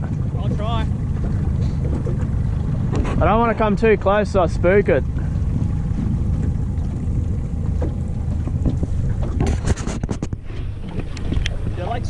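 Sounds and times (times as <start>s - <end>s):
water rumbling around boat: 0.0s - 12.0s
wind buffeting microphone: 0.0s - 12.0s.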